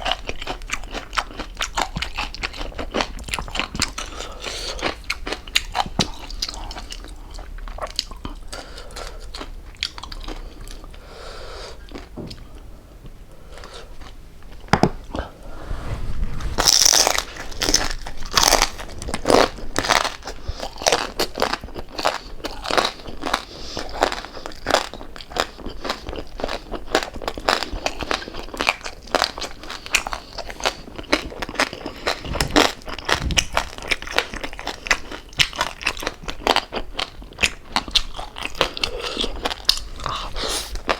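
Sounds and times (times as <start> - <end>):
chewing crispy food: 0.0 - 11.0, 11.8 - 15.3, 16.7 - 40.9.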